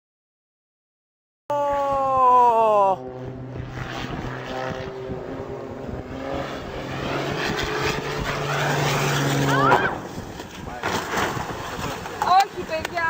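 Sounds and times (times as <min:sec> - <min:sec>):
propeller aircraft engine droning: 0:01.5 - 0:13.0.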